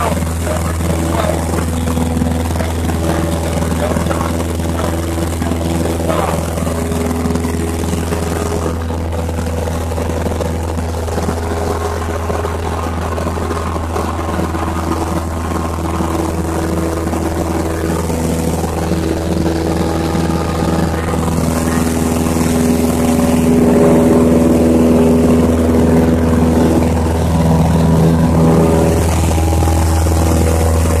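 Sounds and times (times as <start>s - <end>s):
propeller plane engine droning: 0.0s - 31.0s.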